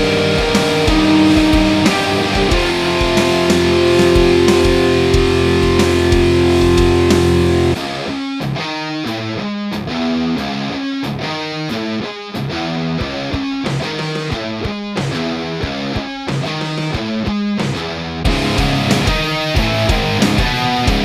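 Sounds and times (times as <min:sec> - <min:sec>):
distorted electric guitar riff: 0:00.0 - 0:21.0.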